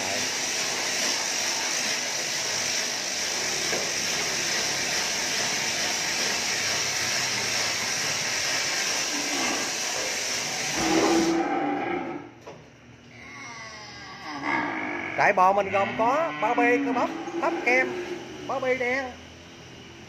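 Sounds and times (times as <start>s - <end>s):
steady loud hiss: 0.0s - 12.3s, 15.2s - 20.0s.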